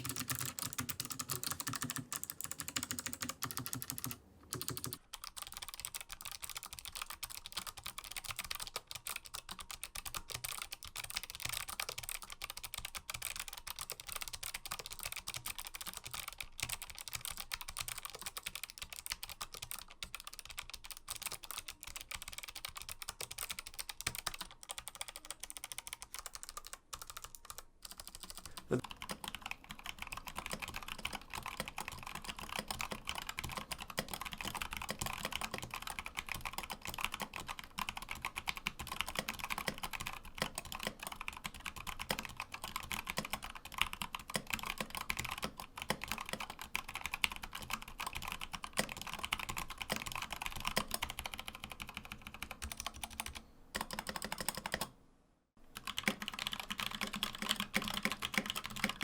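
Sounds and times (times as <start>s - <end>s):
typing on mechanical keyboard: 0.0s - 55.0s, 55.8s - 59.0s.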